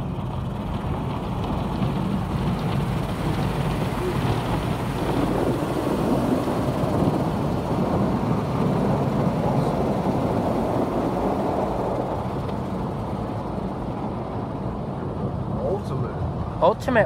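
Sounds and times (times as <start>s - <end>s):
muffled car wash water rushing: 0.0s - 17.0s.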